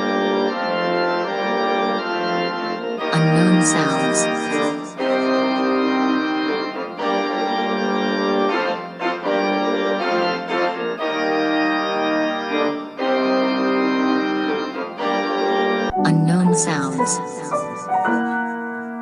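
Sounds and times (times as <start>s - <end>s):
sustained keyboard chords: 0.0s - 19.0s.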